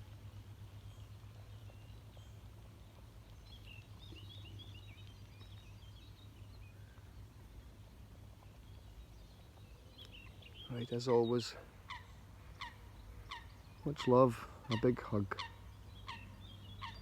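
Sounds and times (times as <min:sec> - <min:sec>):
steady low hum: 0:00.0 - 0:17.0
small bird chirping: 0:00.7 - 0:07.2, 0:08.3 - 0:17.0.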